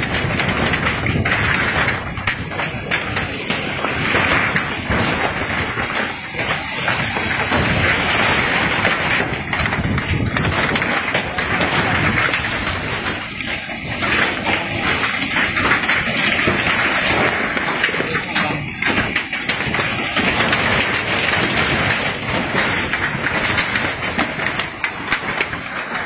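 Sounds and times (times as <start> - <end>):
people's voices: 0.0 - 22.6
rumble with crackling and clattering: 0.0 - 26.0.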